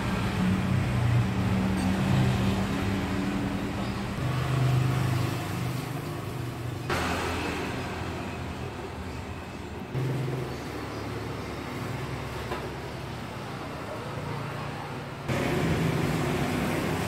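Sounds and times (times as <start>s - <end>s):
road traffic engines humming: 0.0s - 17.0s.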